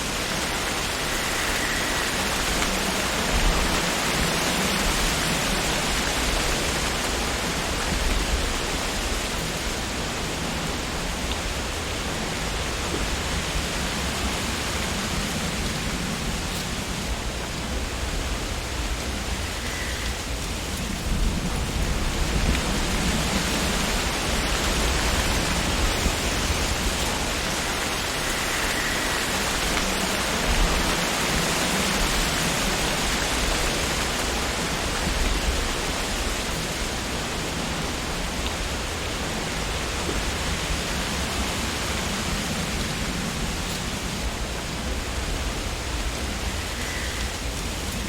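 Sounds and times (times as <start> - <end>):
wind rustling tree leaves: 0.0 - 48.0.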